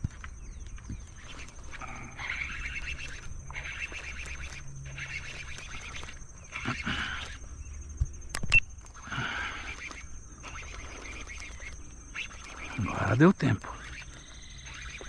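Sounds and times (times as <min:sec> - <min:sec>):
wild animal calls: 0:00.0 - 0:07.7, 0:08.9 - 0:15.0
sharp clicks: 0:00.0 - 0:15.0.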